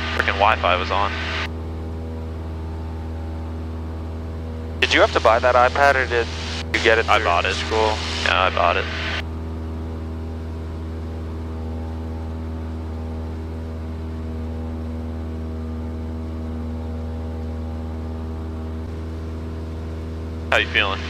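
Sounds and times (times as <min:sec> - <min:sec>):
light aircraft engine drone in cabin: 0:00.0 - 0:21.0.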